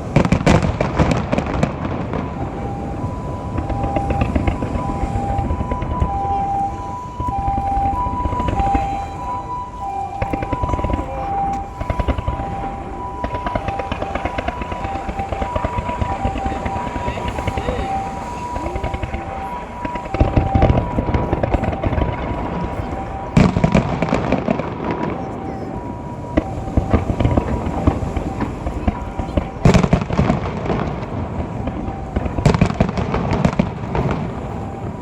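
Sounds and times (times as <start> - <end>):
fireworks crackling and popping: 0.0 - 35.0
loud firework bang: 0.0 - 35.0.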